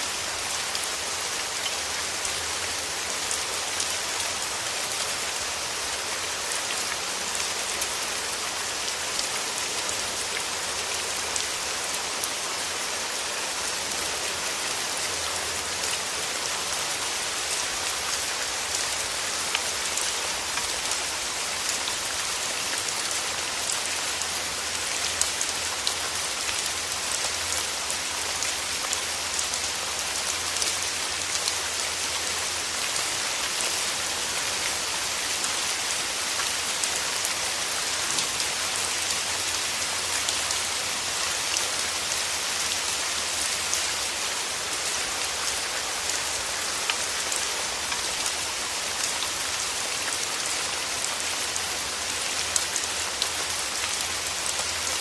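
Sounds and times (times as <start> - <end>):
rain falling on petals: 0.0 - 55.0.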